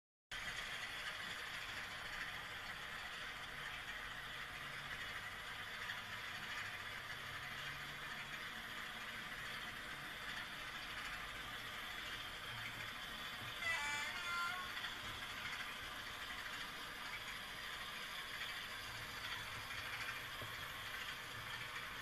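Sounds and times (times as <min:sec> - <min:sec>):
model train running on rails: 0:00.3 - 0:22.0.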